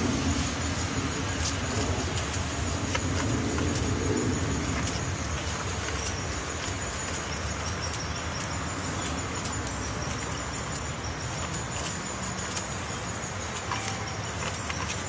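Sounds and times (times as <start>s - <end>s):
faint high insect hum: 0.0s - 15.0s
steady low rumble: 0.0s - 15.0s.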